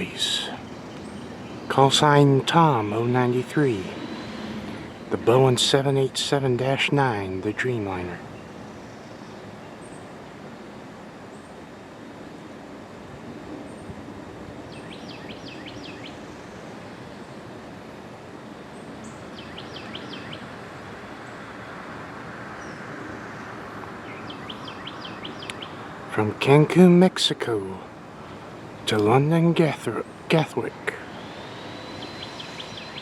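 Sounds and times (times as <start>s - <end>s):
distant jet engine: 0.0s - 33.0s.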